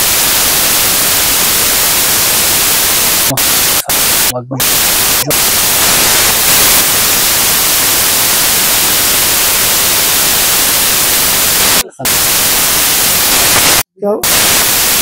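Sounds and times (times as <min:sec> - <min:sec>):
loud static hiss: 0:00.0 - 0:15.0.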